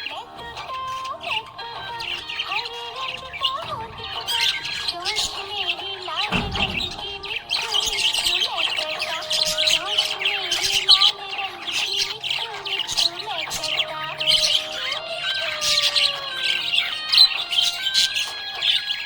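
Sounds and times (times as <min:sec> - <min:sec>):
budgerigars chirping: 0:00.0 - 0:19.0
wavering melody: 0:00.0 - 0:19.0.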